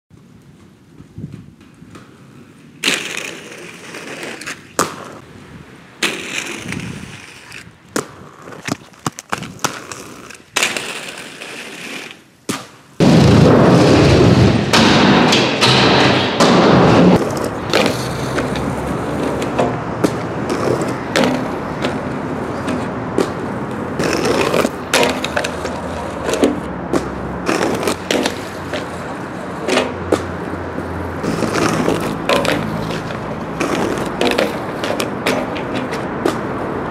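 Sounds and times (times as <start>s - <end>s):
inline skates rolling and grinding: 0.1s - 36.9s
skate landing clacks and knocks: 0.2s - 5.2s, 6.0s - 36.9s.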